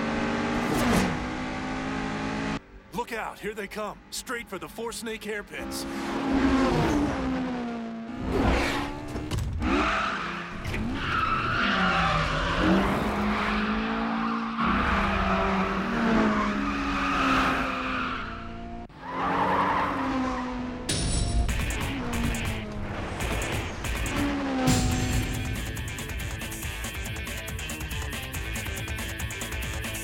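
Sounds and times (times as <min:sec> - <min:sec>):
racing car engines revving: 0:00.0 - 0:30.0.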